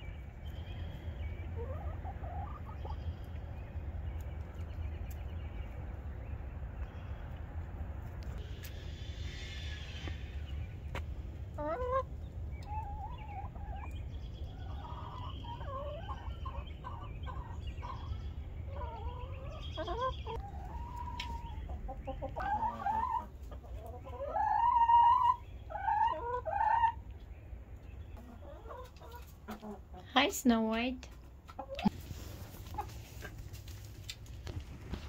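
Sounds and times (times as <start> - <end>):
chickens clucking and calling: 0.0 - 30.0, 31.1 - 35.0.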